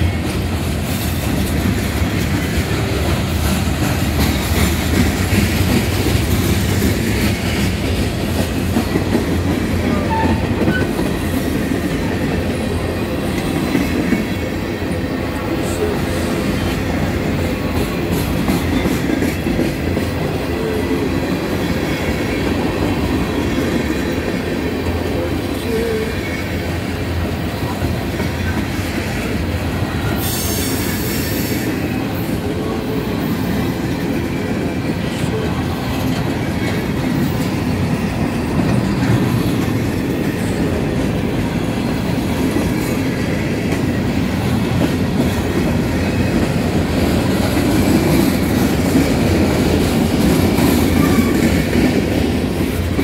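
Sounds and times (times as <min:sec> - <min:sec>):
steel wheels rolling on rails: 0:00.0 - 0:53.0.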